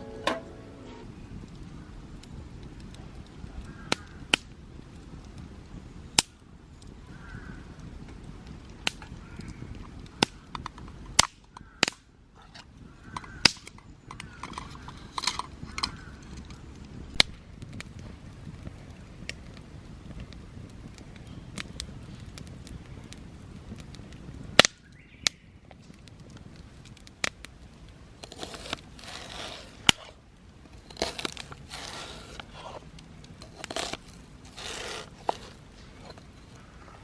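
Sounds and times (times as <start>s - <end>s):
campfire pops and snaps: 1.1s - 36.8s.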